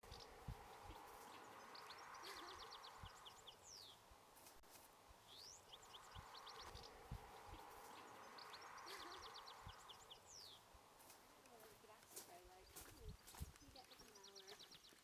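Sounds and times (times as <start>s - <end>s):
faint bird calls: 0.0s - 15.0s
soft hiss: 0.1s - 13.6s.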